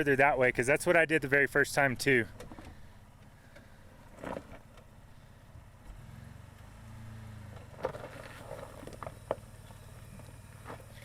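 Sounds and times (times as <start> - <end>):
truck engine at low revs: 0.0 - 11.0.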